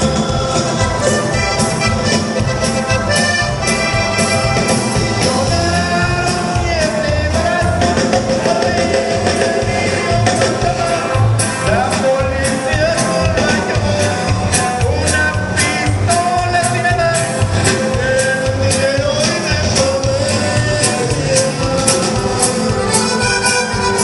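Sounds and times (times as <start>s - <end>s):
person singing: 0.0s - 2.2s, 4.9s - 24.0s
band playing bass and drums: 0.0s - 24.0s.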